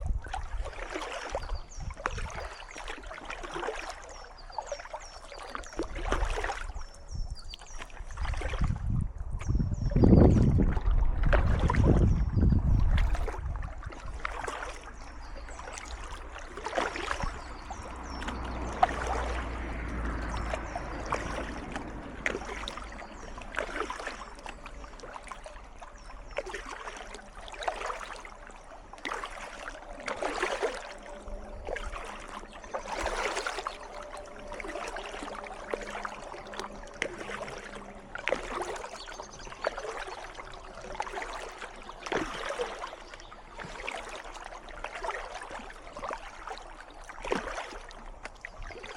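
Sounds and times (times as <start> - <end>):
paddle strokes splashing water: 0.0 - 48.9
soft trickle of water: 0.0 - 48.9.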